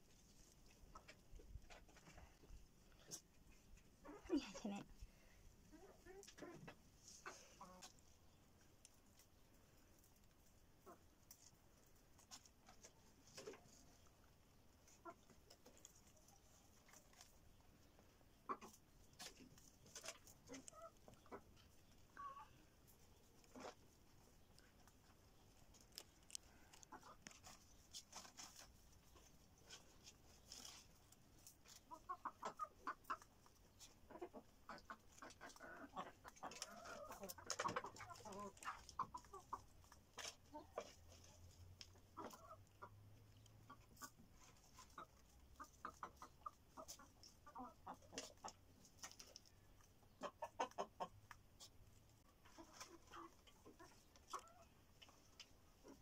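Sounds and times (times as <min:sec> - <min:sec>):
chickens clucking: 0:00.0 - 0:56.0
rabbits nibbling bread: 0:05.0 - 0:56.0.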